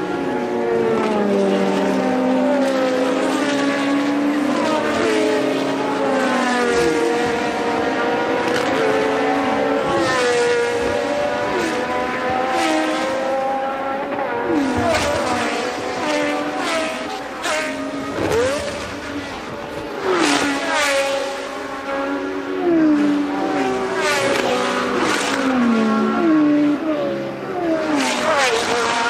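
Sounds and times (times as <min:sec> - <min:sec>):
race car engines passing: 0:00.0 - 0:29.0.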